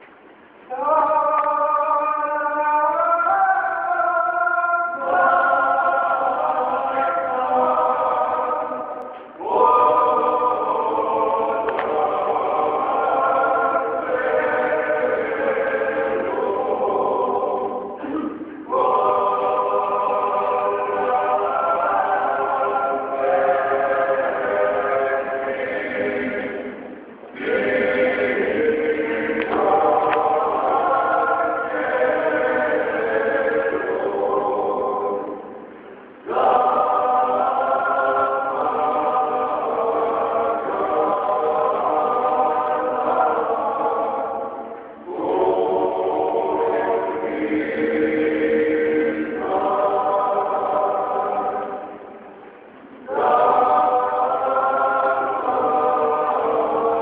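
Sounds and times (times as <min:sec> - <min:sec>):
men singing a cappella: 0:00.7 - 0:35.4, 0:36.2 - 0:51.8, 0:53.0 - 0:57.0.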